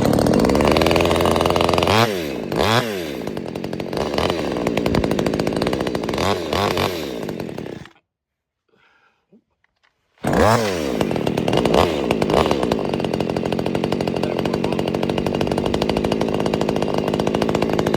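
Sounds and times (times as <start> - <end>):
chainsaw running: 0.0 - 8.0, 10.2 - 17.9.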